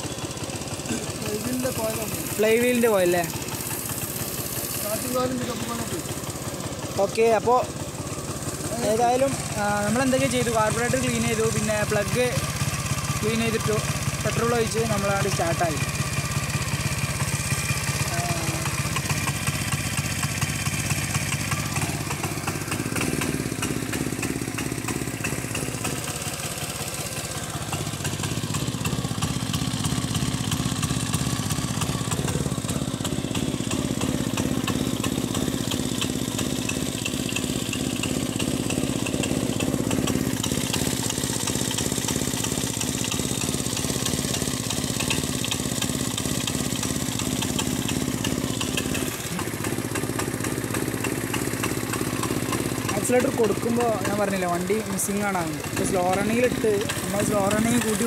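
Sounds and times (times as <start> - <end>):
scooter engine idling: 0.0 - 58.0.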